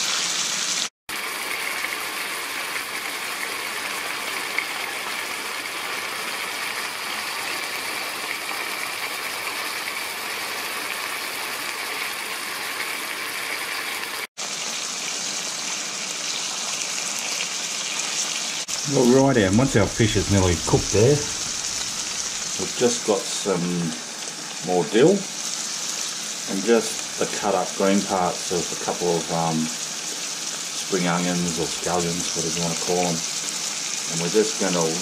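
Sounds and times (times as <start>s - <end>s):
fish frying in hot oil: 0.0s - 35.0s.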